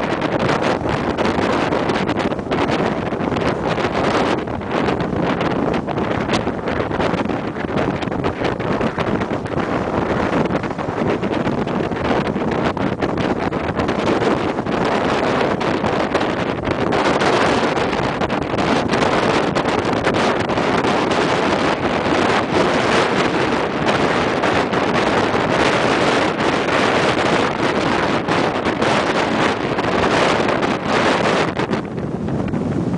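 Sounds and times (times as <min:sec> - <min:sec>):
wind blowing across microphone: 0:00.0 - 0:32.9.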